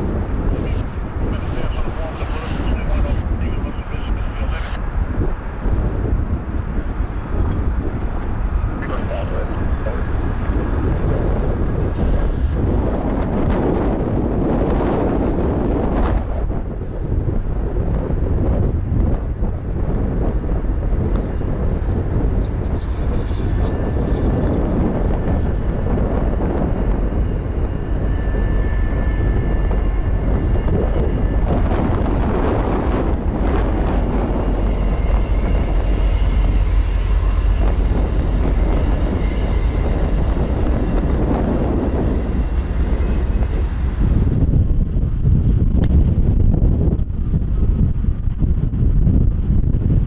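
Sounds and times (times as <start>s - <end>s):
freight cars rolling on rails: 0.0s - 46.4s
diesel locomotives rumbling past: 0.0s - 50.0s.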